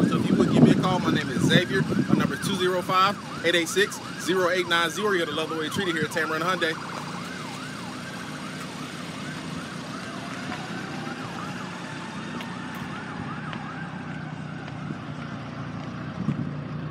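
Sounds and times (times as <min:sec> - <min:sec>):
emergency siren yelping: 0:00.0 - 0:16.6
rising and falling siren tone: 0:00.0 - 0:16.8
road traffic noise: 0:00.0 - 0:16.9.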